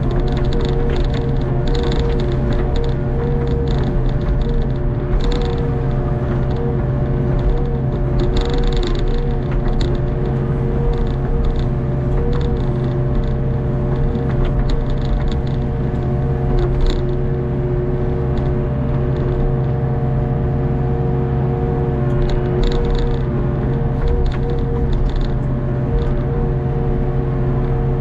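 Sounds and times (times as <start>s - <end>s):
diesel excavator engine running: 0.0s - 28.0s
hydraulic whine: 0.0s - 28.0s.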